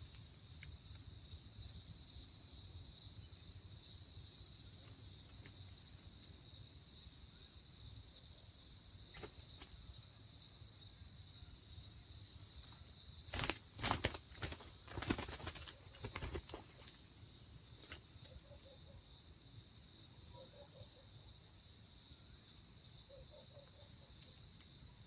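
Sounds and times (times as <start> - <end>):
high-pitched insect trill: 0.0 - 25.0.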